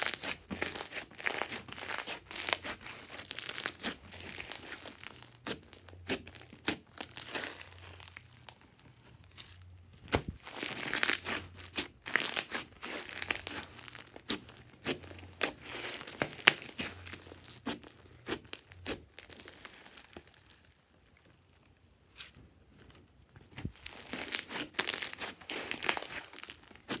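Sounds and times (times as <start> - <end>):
slime crackling and popping: 0.0 - 22.4, 23.5 - 27.0.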